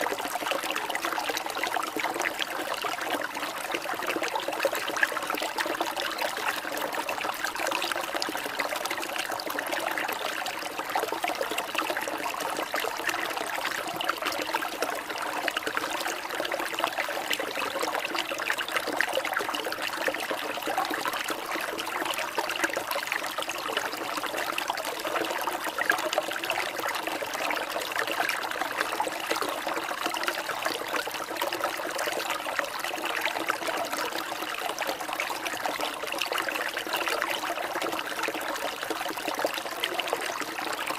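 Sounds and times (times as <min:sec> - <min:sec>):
water trickling and babbling: 0:00.0 - 0:40.9.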